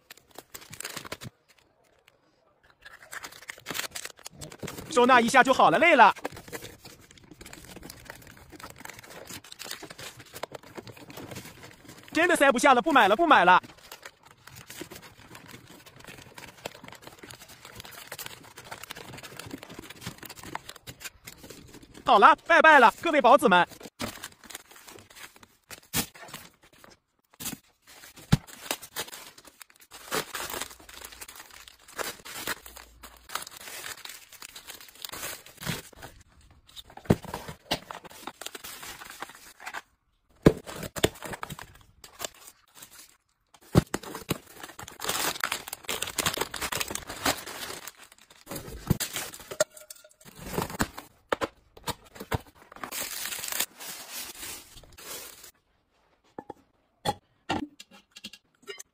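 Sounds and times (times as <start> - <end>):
plastic packaging crinkling and tearing: 0.0 - 2.2, 2.8 - 22.1, 23.7 - 39.9, 40.6 - 49.6, 52.0 - 55.6.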